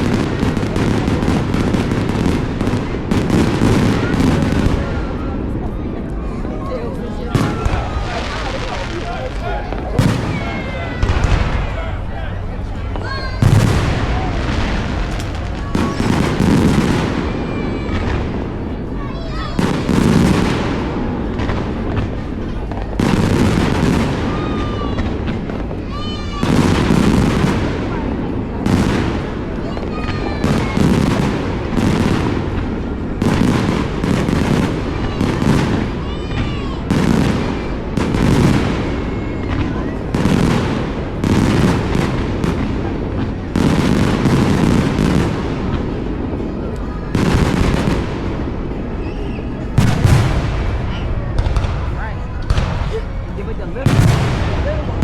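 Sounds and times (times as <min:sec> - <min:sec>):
fireworks bursting: 0:00.0 - 0:55.0
fireworks rumble: 0:00.0 - 0:55.0.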